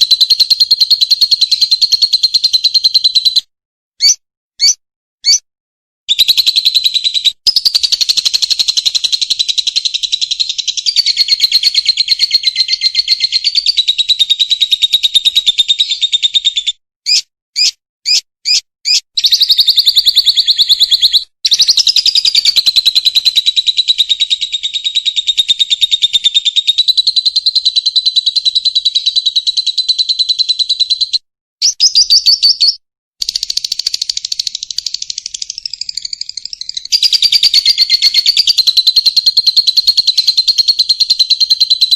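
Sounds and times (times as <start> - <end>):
lovebird singing fast trills: 0.0 - 3.4, 4.0 - 5.4, 6.1 - 41.9
short bird chirps: 0.0 - 5.5, 6.1 - 23.3, 24.6 - 41.9.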